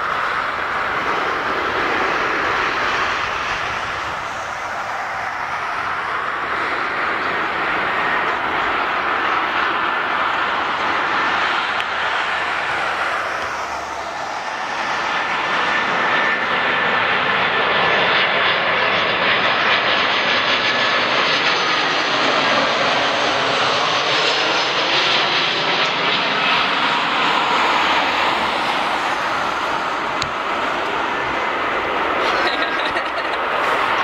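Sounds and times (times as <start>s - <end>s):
jet engines rushing: 0.0s - 34.0s
thin high engine whine: 0.0s - 34.0s.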